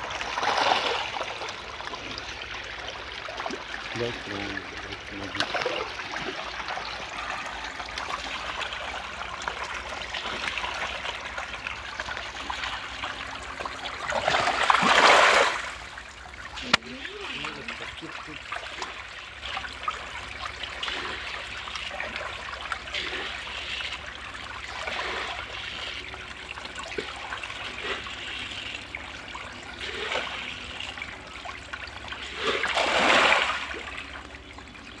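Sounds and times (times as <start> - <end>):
fish splashing at water surface: 0.0 - 35.0.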